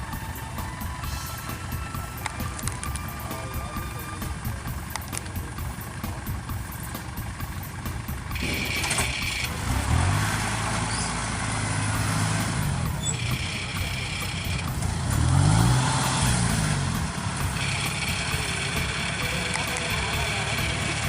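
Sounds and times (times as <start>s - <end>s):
farm machine engine revving: 0.0s - 21.0s.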